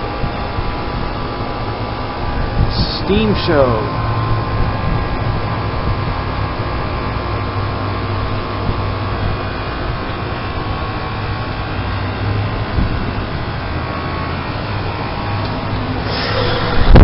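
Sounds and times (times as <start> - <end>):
heat pump compressor humming: 0.0 - 17.0.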